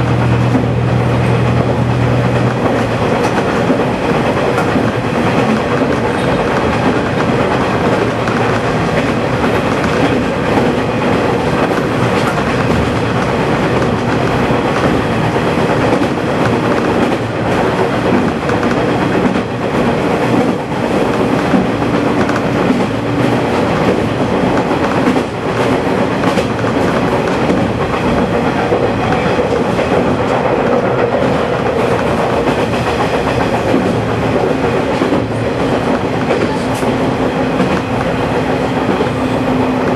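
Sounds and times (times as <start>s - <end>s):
diesel railcar engine drone: 0.0s - 39.9s
wheels clicking over rail joints: 0.1s - 39.9s.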